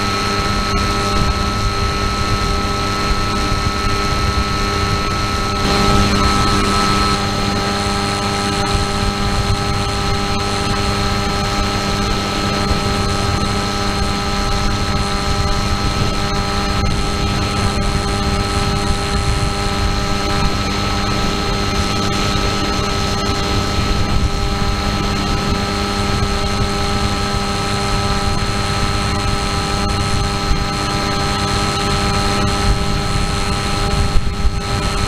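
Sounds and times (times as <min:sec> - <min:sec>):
model aircraft motor whine: 0:00.0 - 0:35.0.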